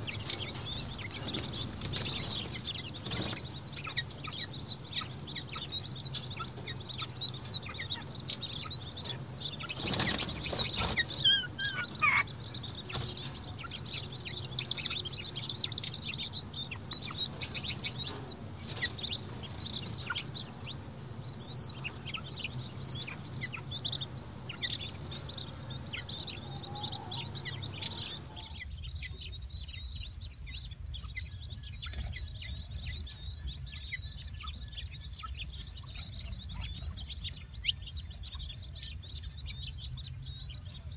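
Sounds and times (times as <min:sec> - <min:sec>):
quail chicks peeping: 0:00.0 - 0:40.9.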